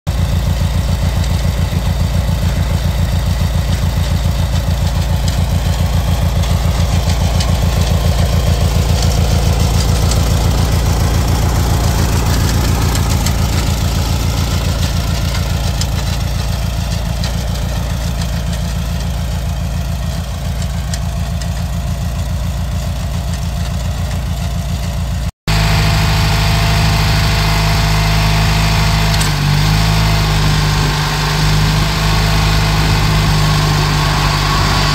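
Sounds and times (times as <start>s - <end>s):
garden tractor engine idling: 0.1s - 34.9s.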